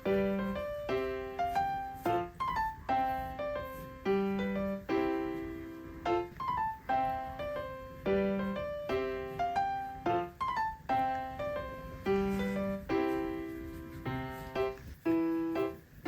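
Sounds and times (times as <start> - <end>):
light piano melody: 0.0 - 16.0.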